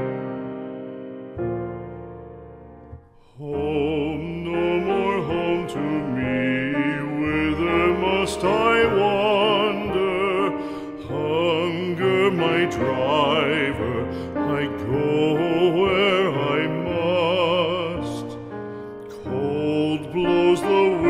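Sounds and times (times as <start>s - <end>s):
piano notes: 0.0s - 21.0s
slow melody with vibrato: 0.0s - 21.0s.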